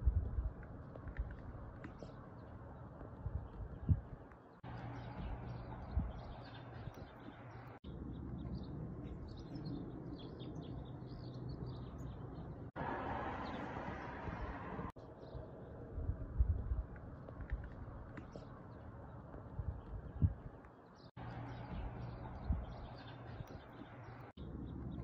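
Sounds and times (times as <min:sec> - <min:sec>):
steady outdoor hiss: 0:00.0 - 0:25.0
small birds chirping: 0:00.1 - 0:25.0.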